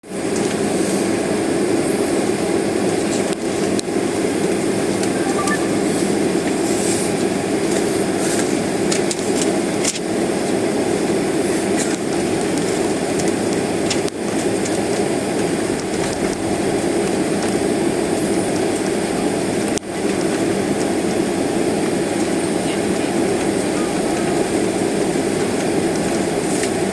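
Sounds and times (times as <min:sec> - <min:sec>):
jet engines at low thrust: 0:00.0 - 0:26.9.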